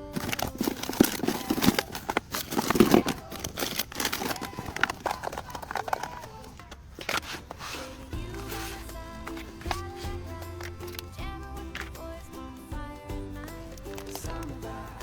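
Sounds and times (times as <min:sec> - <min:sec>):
crinkling and rustling: 0:00.0 - 0:12.3, 0:13.5 - 0:14.9.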